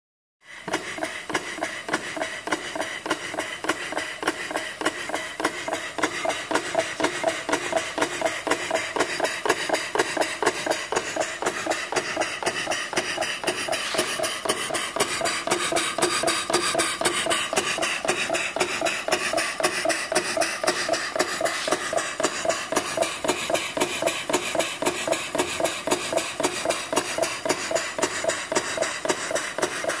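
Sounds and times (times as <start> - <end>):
model steam engine puffing: 0.4 - 30.0.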